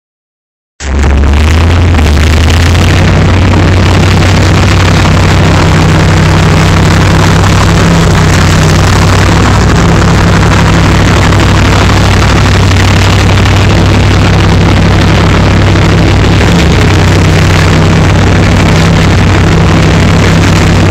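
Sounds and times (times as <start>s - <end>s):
diesel engine droning: 0.8s - 20.9s
mechanical din: 0.8s - 20.9s.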